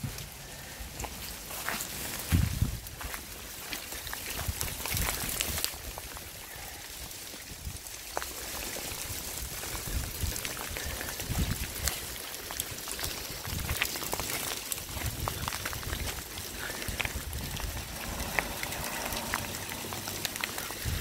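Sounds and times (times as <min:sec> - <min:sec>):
hail falling in steady hiss: 0:00.0 - 0:21.0
hailstones ticking on cars: 0:02.8 - 0:21.0.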